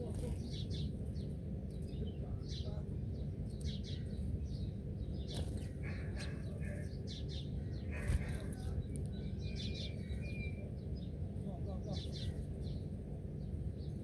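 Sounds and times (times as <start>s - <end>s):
low background rumble: 0.0s - 14.0s
wild birds chirping: 0.0s - 14.0s.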